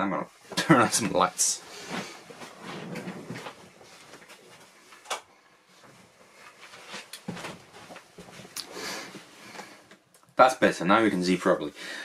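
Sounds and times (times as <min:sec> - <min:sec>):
person moving about rustling: 0:00.2 - 0:10.1.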